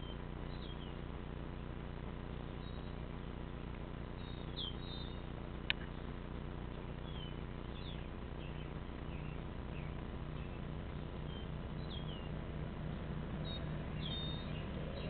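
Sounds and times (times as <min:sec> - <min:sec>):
low outdoor hum: 0:00.0 - 0:15.0
small birds chirping: 0:00.0 - 0:15.0.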